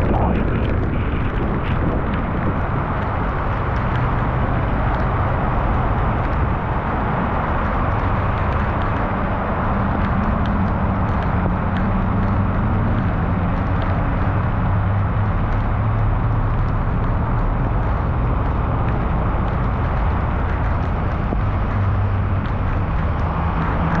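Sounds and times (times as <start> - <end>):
heavy rain falling: 0.0 - 24.0
single raindrop ticks: 0.3 - 24.0.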